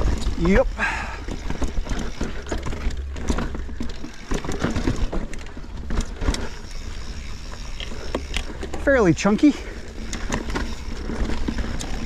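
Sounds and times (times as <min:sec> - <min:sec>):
bike knocking and rattling on rocks: 0:00.0 - 0:12.0.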